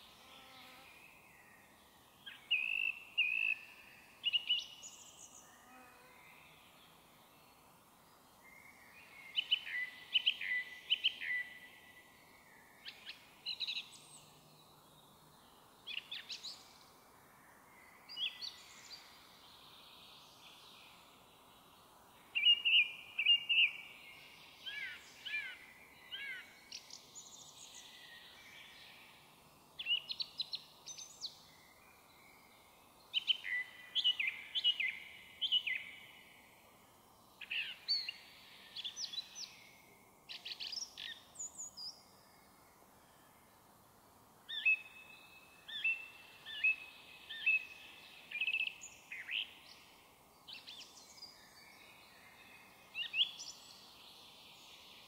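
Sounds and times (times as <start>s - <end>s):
song thrush singing: 0.0s - 5.5s, 6.4s - 43.8s, 44.4s - 55.0s
small birds chirping faintly: 0.0s - 55.0s.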